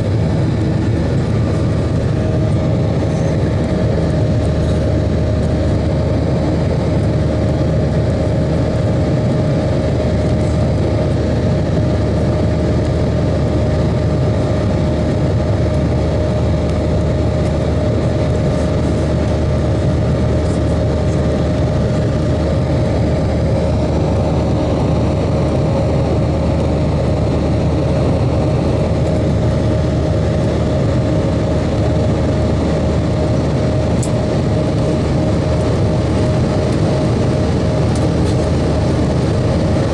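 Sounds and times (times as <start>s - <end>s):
jet engines roaring at takeoff: 0.0s - 39.9s.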